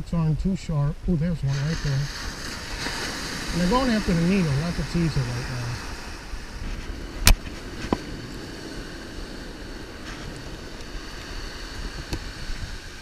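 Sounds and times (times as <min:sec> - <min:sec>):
surf washing: 0:01.0 - 0:13.0.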